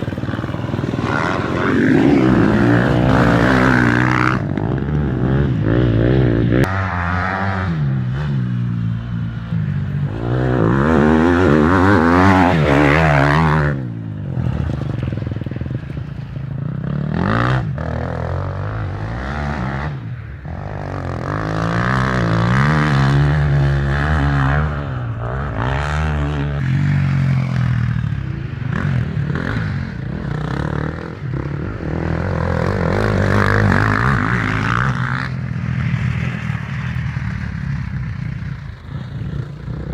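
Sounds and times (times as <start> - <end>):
motorcycle engines revving past: 0.0 - 39.9.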